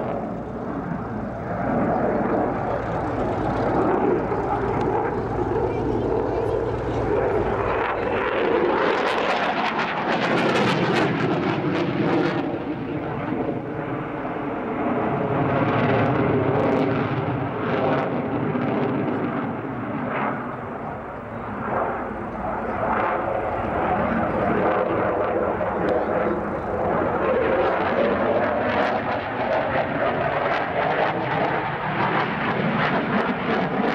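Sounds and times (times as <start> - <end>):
aircraft engine rushing: 0.0 - 33.9.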